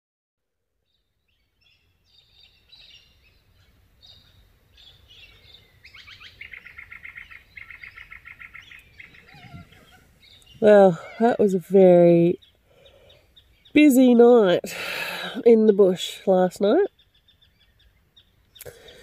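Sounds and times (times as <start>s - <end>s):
bird singing rapid repeated notes: 0.9s - 14.6s, 15.5s - 19.0s
birds chirping and calling: 1.2s - 19.0s.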